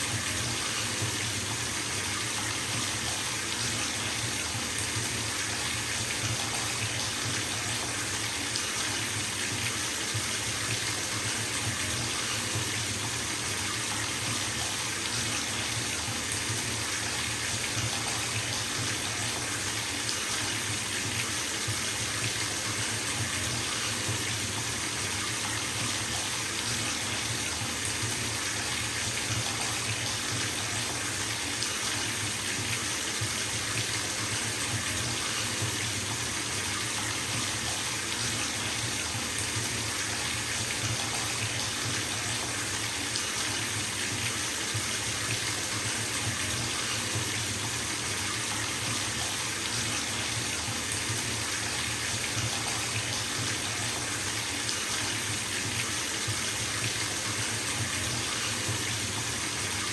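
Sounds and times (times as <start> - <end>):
water running into bathtub: 0.0 - 59.9.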